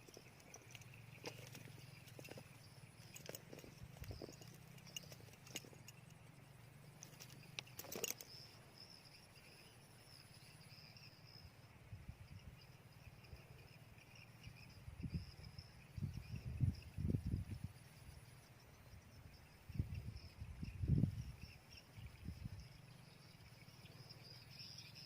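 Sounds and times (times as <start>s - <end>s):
high-pitched insect trilling: 0.0s - 25.0s.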